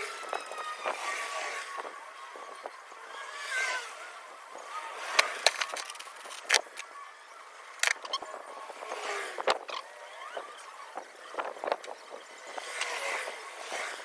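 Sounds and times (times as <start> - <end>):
faint squeaks: 0.0 - 14.0.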